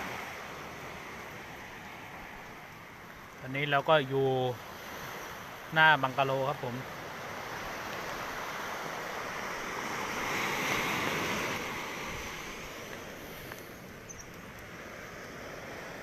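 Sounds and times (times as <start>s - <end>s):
storm surf washing ashore: 0.0s - 16.0s.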